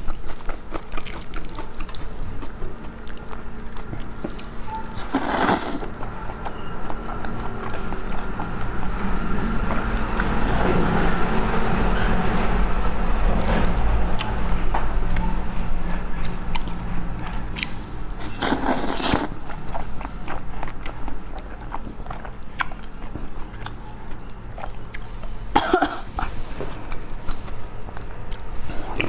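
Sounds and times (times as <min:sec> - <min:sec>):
person chewing noisily: 0:00.0 - 0:29.0.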